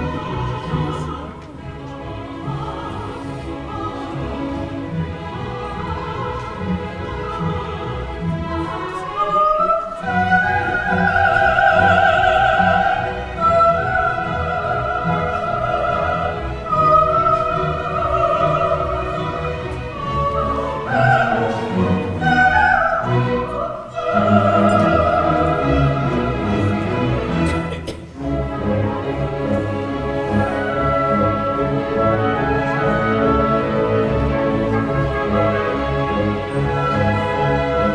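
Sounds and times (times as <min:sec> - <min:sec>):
orchestral accompaniment: 0:00.0 - 0:37.9
soprano singing vocalise: 0:00.0 - 0:37.9.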